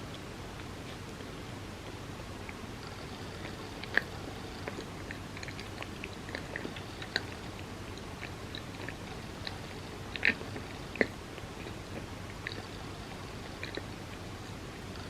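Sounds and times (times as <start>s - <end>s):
chewing with mouth clicks: 0.0s - 15.0s.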